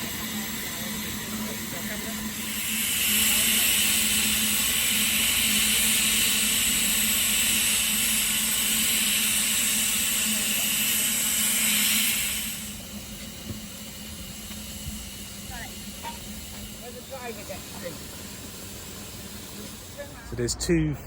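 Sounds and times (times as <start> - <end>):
locomotive steam hissing: 0.0 - 21.0.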